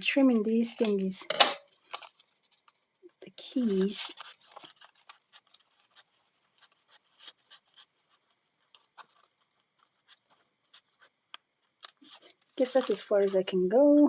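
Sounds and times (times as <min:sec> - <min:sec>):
paper rustling and ticking: 0:00.0 - 0:13.6.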